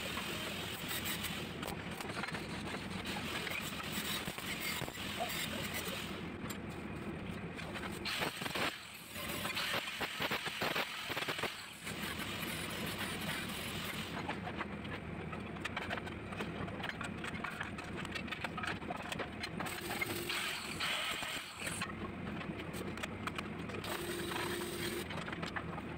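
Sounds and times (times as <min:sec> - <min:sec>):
continuous machine hum: 0:00.0 - 0:25.9
crackles and clatter: 0:00.0 - 0:25.9.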